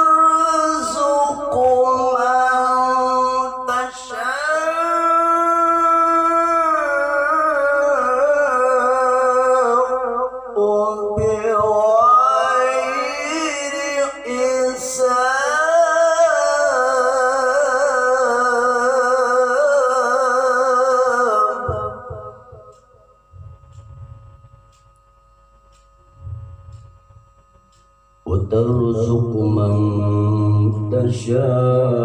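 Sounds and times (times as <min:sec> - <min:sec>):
man reciting in melodic style: 0:00.0 - 0:23.9, 0:28.2 - 0:32.0.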